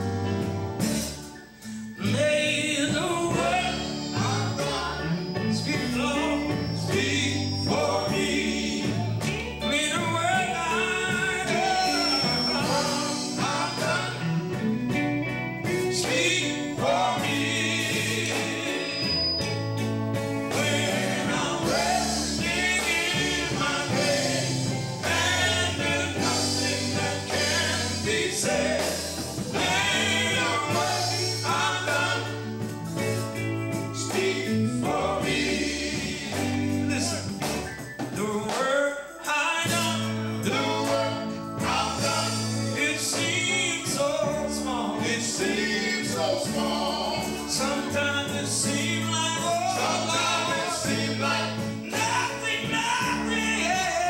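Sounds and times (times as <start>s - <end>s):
bass guitar: 0.0s - 54.0s
electric guitar: 0.0s - 54.0s
keyboard: 0.0s - 54.0s
male quartet singing in harmony: 1.3s - 54.0s.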